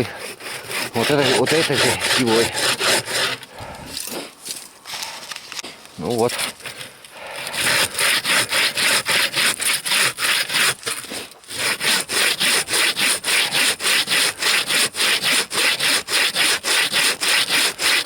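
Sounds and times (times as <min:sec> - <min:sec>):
saw cutting through log: 0:00.0 - 0:03.9, 0:06.0 - 0:06.8, 0:07.4 - 0:18.0.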